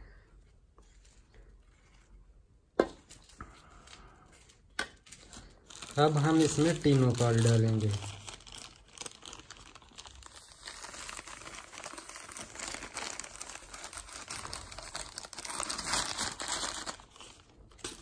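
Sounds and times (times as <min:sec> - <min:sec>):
plastic bag crinkling: 0:03.0 - 0:18.0.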